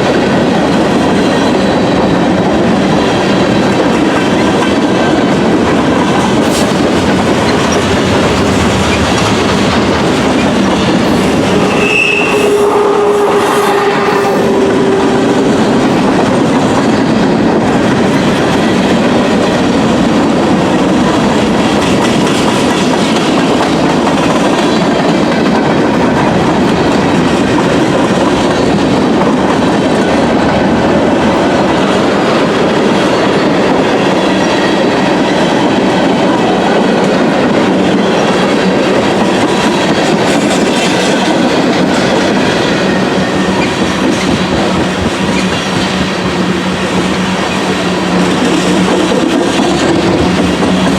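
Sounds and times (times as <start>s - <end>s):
freight train wheels on rails: 0.0s - 50.9s.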